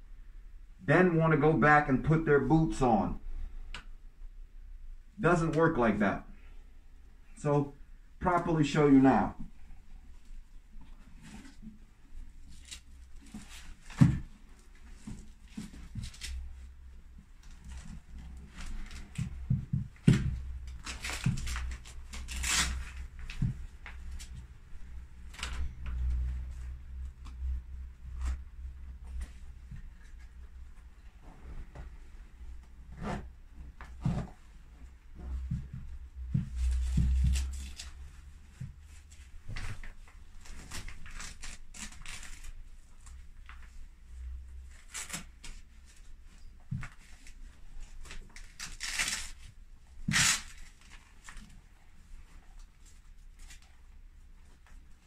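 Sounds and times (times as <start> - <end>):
leather rustling and scraping: 10.2 - 55.0.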